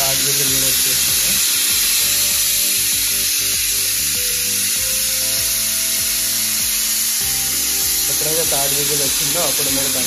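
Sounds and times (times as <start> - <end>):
pot of water hissing: 0.0 - 10.0
slow held-note music: 0.0 - 10.0.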